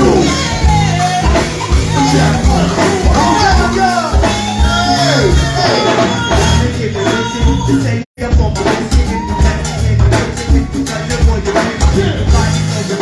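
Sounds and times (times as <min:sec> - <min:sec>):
band drum beat and bass: 0:00.0 - 0:13.0
person singing: 0:00.0 - 0:13.0.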